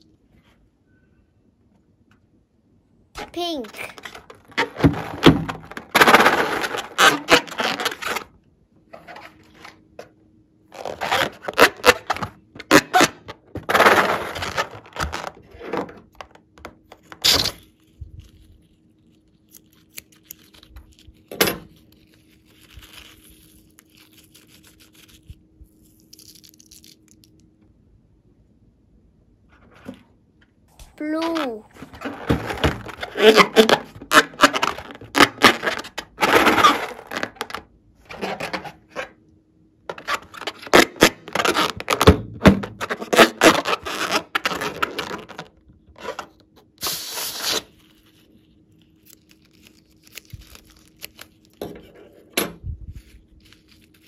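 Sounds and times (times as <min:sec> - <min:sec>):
balloon crackling and scraping: 0:03.2 - 0:26.8, 0:30.9 - 0:39.2, 0:39.9 - 0:54.0.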